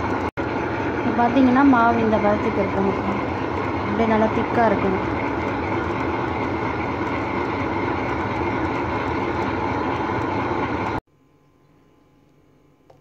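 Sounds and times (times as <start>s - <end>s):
wet grinder running: 0.0s - 11.0s.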